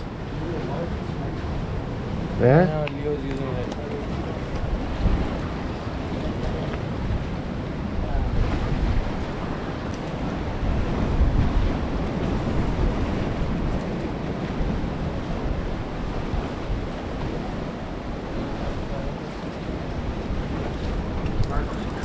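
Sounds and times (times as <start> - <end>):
choppy sea water: 0.0 - 22.0
wind buffeting microphone: 0.0 - 22.0.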